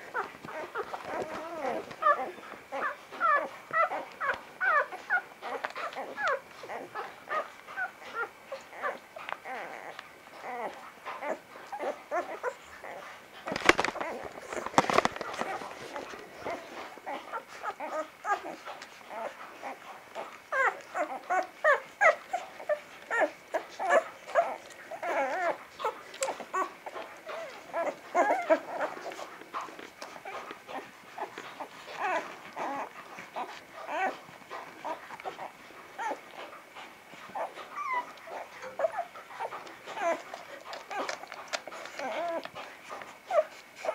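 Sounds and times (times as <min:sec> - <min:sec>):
puppies squeaking and whimpering: 0:00.1 - 0:43.9.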